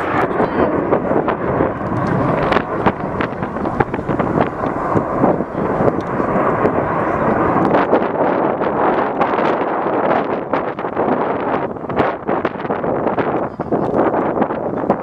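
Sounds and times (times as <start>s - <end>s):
jet engine roar with crackles: 0.0s - 15.0s.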